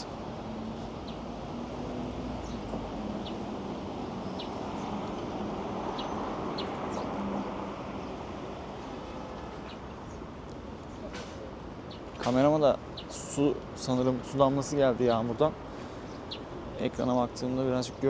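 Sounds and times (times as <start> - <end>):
city traffic hum: 0.0 - 18.0.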